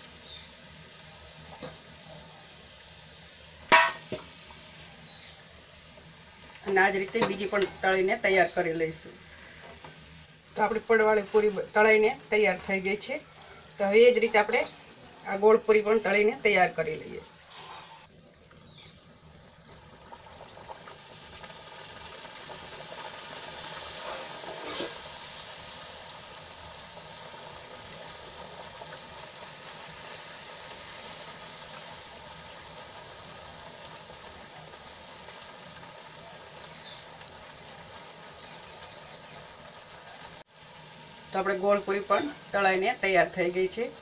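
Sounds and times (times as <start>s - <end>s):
deep-frying sizzle in oil: 0.0s - 44.0s.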